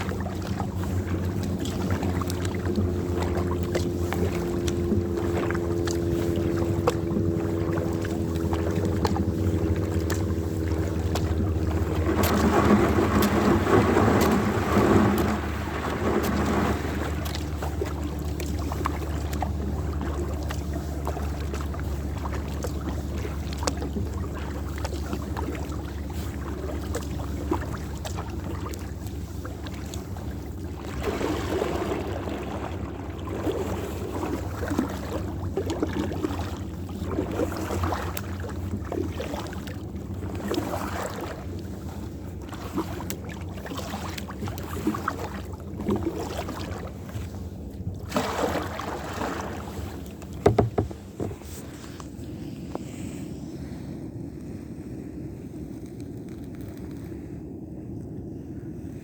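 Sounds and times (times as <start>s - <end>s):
steady low hum: 0.0s - 59.0s
water splashing around kayak: 0.0s - 59.0s.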